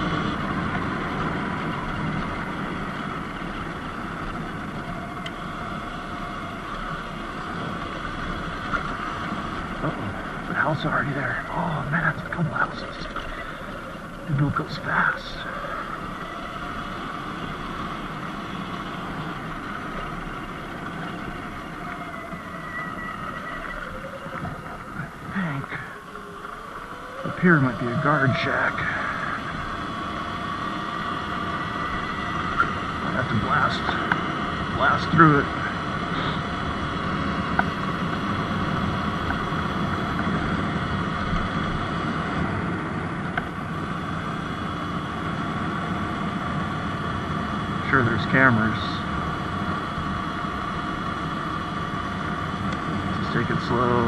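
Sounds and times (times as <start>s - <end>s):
chain and tyre noise: 0.0s - 54.0s
electric motor whine: 0.0s - 54.0s
faint higher whine: 0.0s - 54.0s
wind rushing over microphone: 0.0s - 54.0s.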